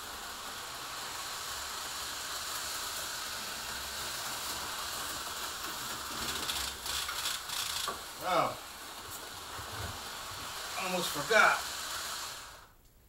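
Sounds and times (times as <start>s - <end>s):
slot cars whirring: 0.0s - 12.7s.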